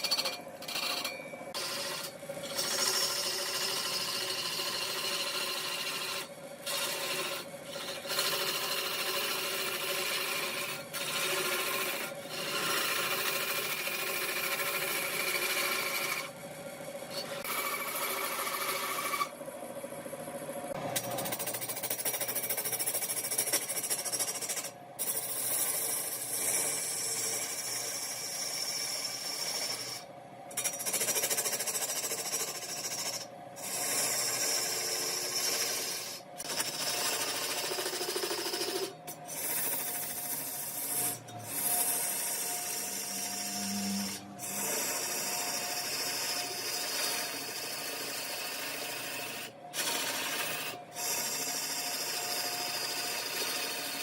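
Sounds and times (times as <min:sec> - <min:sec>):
lathe motor hum: 0:00.0 - 0:21.4, 0:24.3 - 0:30.0, 0:32.3 - 0:54.0
tool shaving spinning wood: 0:00.0 - 0:54.0.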